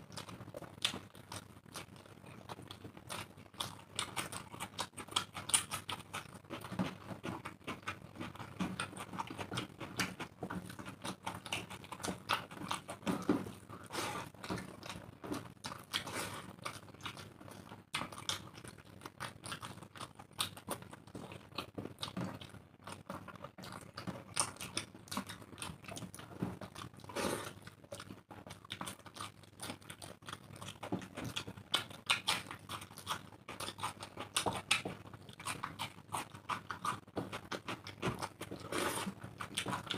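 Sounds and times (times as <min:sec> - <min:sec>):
chewing: 0:00.0 - 0:39.9
fingers mixing rice clicks: 0:00.1 - 0:39.9.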